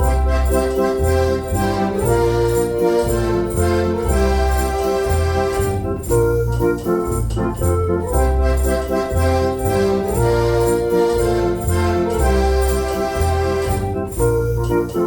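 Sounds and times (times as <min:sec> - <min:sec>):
bass line: 0:00.0 - 0:15.0
organ pipe chords: 0:00.0 - 0:15.0.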